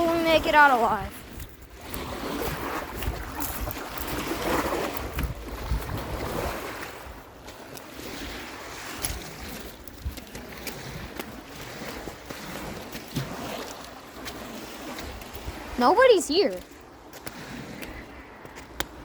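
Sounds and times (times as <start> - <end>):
wind buffeting microphone: 0.0 - 13.5, 14.2 - 19.0
lake waves washing on shore: 0.0 - 19.0.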